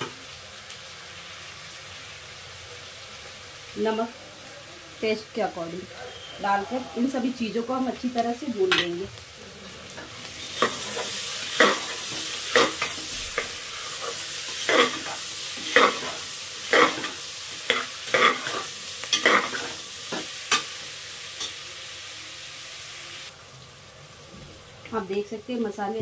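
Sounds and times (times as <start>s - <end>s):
food sizzling in a pot: 0.0s - 26.0s.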